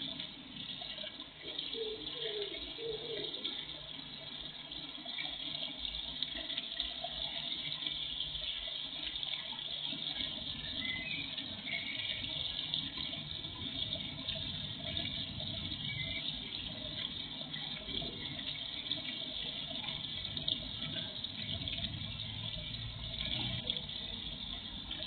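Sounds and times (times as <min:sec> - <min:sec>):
fountain splashing into water: 0:00.0 - 0:25.0.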